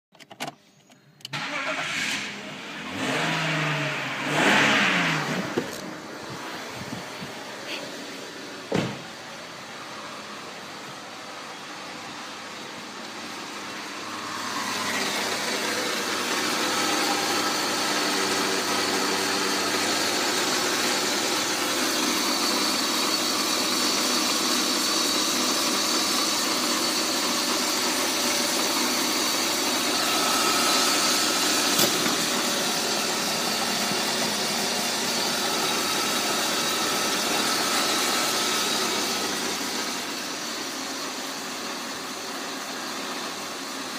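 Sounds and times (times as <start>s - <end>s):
car engine idling: 1.3s - 43.9s.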